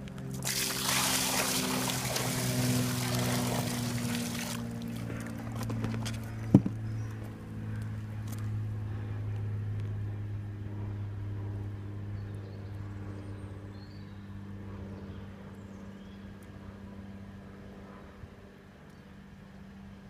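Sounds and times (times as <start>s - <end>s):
engine idling hum: 0.0s - 20.0s.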